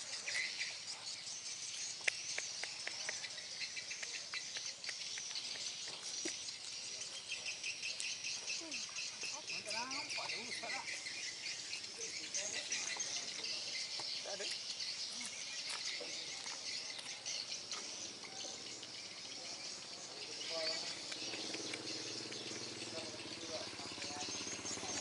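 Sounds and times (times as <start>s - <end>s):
insects and birds chirping: 0.0s - 25.0s.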